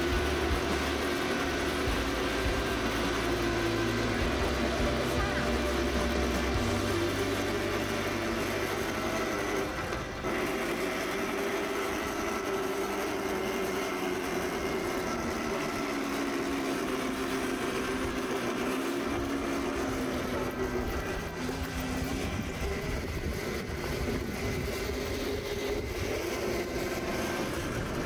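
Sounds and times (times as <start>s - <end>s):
electric go-kart motor whining: 0.0s - 28.0s.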